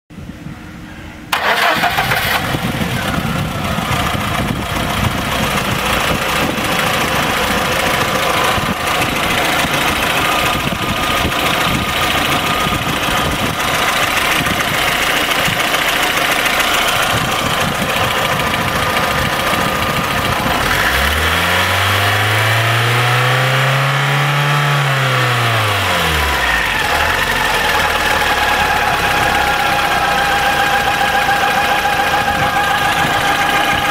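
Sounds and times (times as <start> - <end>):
car engine starting and revving: 1.3 - 33.9.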